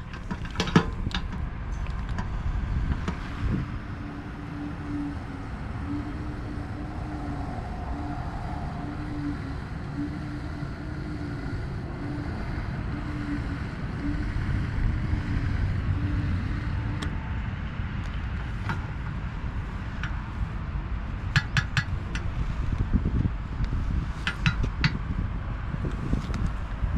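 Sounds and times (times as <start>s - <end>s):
low pulsing tone: 0.0s - 26.9s
traffic rumble: 0.0s - 26.9s
wind: 0.0s - 26.9s.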